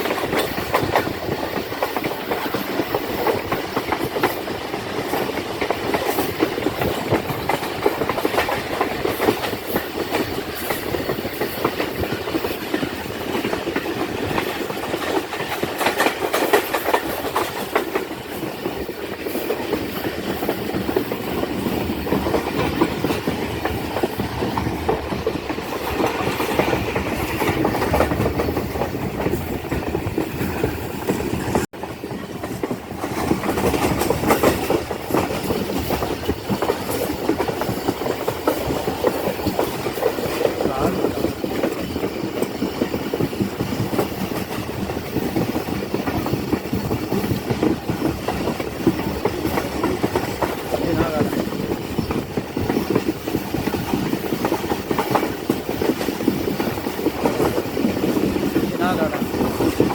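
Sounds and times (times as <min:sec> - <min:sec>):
train rumbling: 0:00.0 - 0:59.9
wheels clattering over rail joints: 0:00.0 - 0:59.9.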